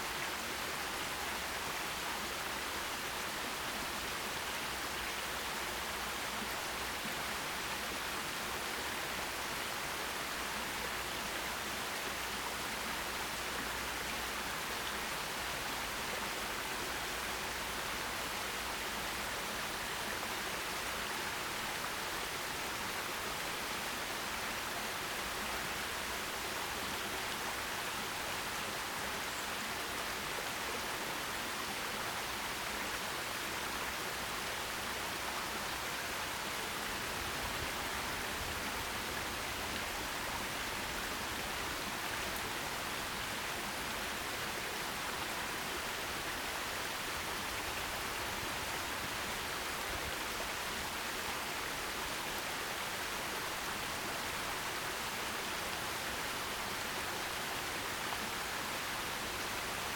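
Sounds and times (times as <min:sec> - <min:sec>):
stream water running over rocks: 0:00.0 - 0:59.9.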